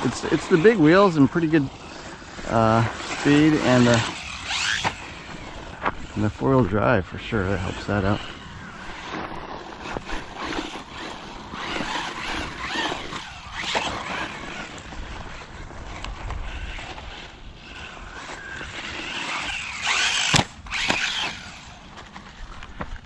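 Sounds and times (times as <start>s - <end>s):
electric motor whining: 0.0s - 23.0s
tyres scrabbling on loose dirt: 0.0s - 23.0s
toy car crashing and tumbling: 1.3s - 6.2s, 7.5s - 23.0s.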